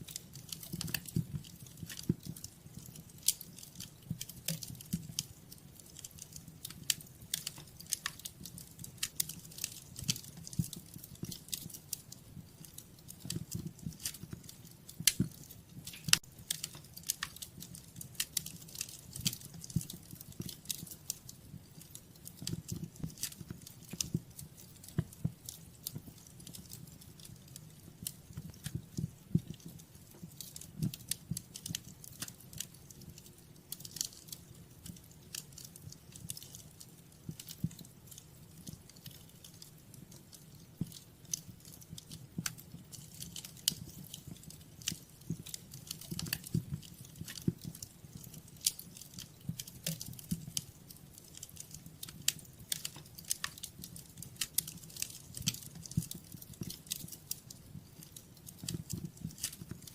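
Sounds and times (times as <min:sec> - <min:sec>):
fire popping and snapping: 0:00.0 - 0:59.9
low fire rumble: 0:00.0 - 0:59.9.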